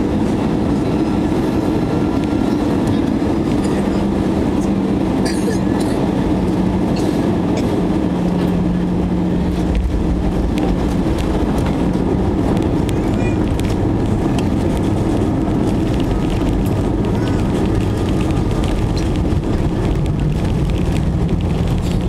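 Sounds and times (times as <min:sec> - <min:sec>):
jet engines roaring: 0:00.0 - 0:22.0
low hum: 0:00.0 - 0:22.0
wheels rumbling on runway: 0:00.0 - 0:22.0.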